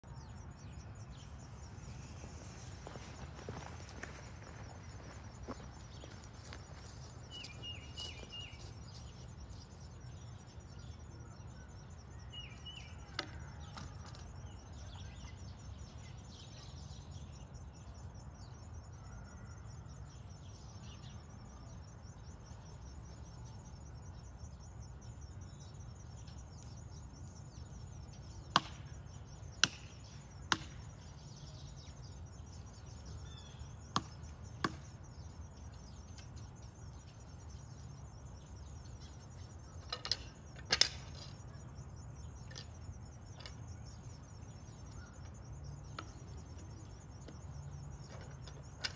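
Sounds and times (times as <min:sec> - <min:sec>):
bird chirp: 0:00.0 - 0:48.9.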